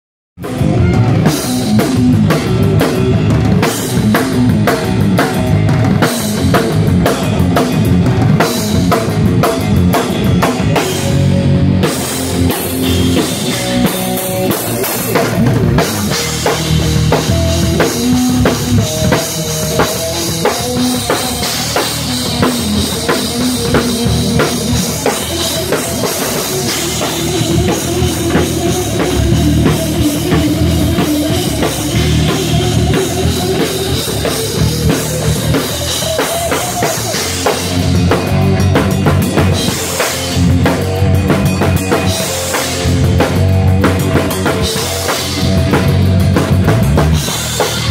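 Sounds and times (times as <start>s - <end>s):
drum kit: 0.4s - 47.9s
electric guitar: 0.4s - 47.9s
metal band playing: 0.4s - 47.9s.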